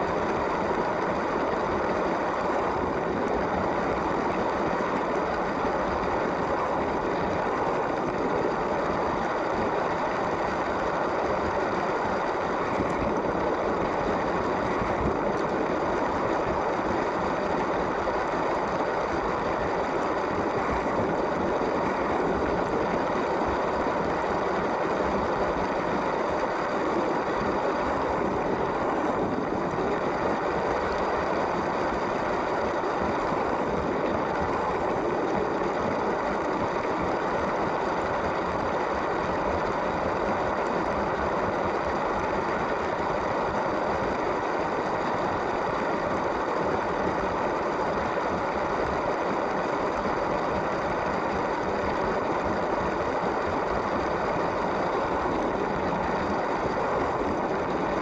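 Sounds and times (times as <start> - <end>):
plastic wheels rolling on track: 0.0 - 58.0.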